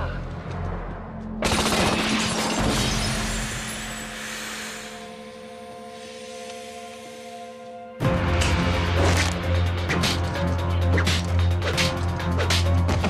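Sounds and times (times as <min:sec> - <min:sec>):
low droning score: 0:00.0 - 0:02.0, 0:03.1 - 0:13.0.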